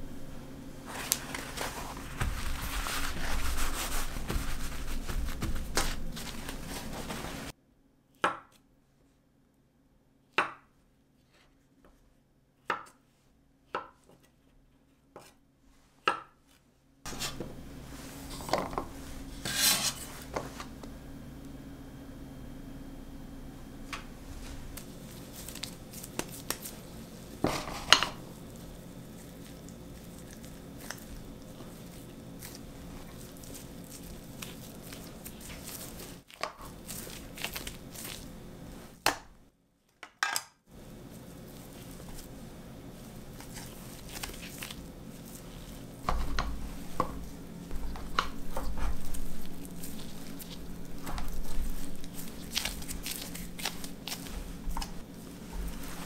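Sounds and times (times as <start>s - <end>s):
low steady hum: 0.0s - 7.9s, 17.1s - 39.5s, 40.7s - 56.0s.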